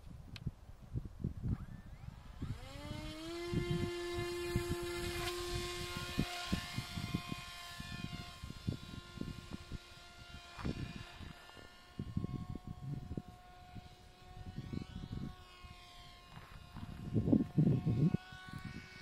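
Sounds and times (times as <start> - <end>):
wind buffeting microphone: 0.0 - 19.0
model airplane motor whining: 1.4 - 19.0.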